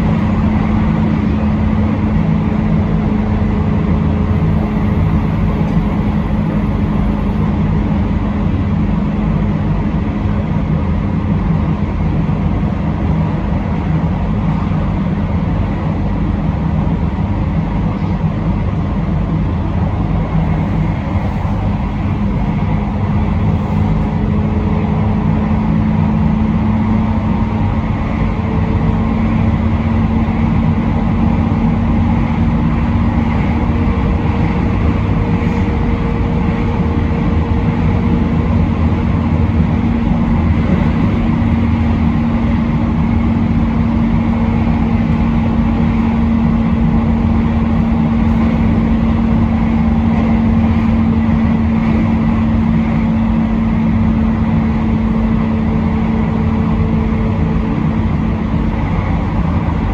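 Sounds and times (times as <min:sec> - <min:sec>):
steady low hum: 0:00.0 - 0:59.9
train wheels rumbling on rail: 0:00.0 - 0:59.9.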